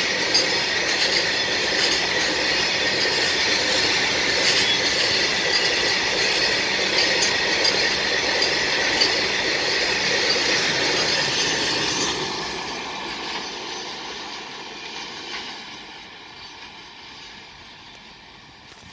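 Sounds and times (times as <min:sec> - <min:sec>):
train wheels rolling on rails: 0:00.0 - 0:18.9.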